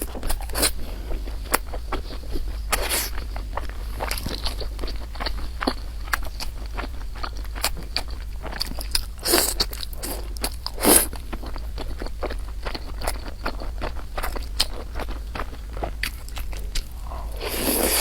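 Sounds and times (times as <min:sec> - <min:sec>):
crunchy chewing and biting: 0:00.0 - 0:18.0.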